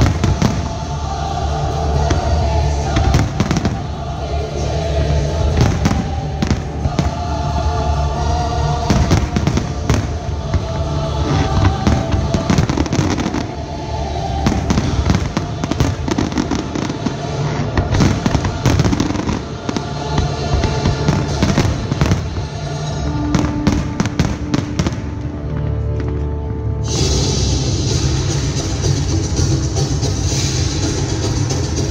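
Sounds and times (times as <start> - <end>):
fireworks bursting: 0.0 - 26.2
music playing: 0.0 - 31.9.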